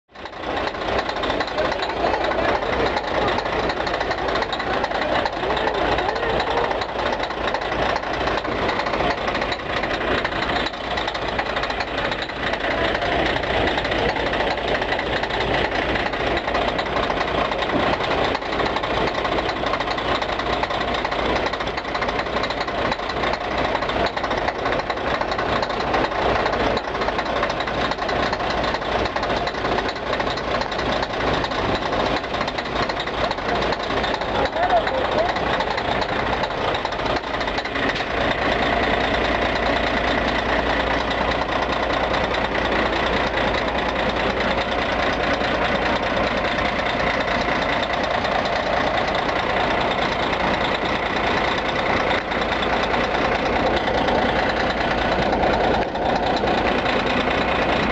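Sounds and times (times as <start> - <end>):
diesel bus engine running: 0.1 - 57.9.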